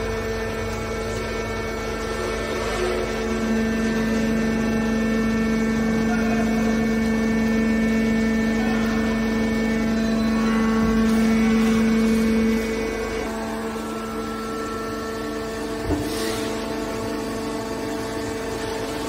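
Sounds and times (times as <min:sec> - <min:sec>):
hydraulic power unit humming: 0:00.0 - 0:19.0.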